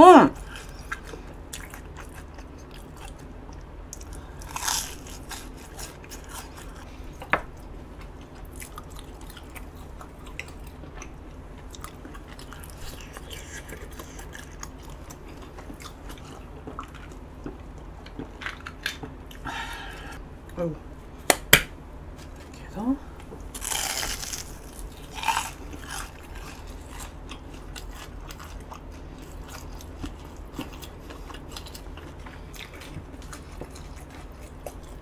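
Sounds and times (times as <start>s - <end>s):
crunchy biting and chewing: 0.4s - 7.3s, 8.0s - 19.4s, 23.5s - 35.0s.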